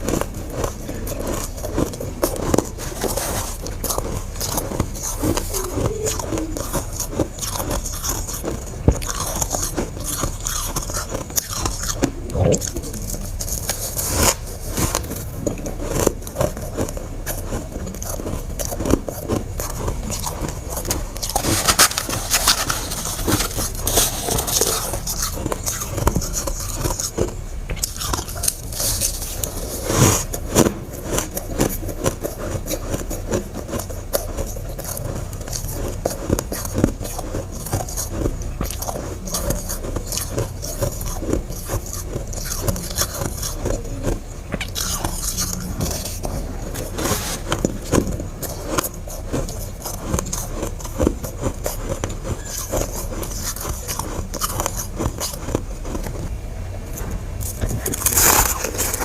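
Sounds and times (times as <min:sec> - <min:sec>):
frost being chewed and crunched: 0:00.0 - 0:59.0.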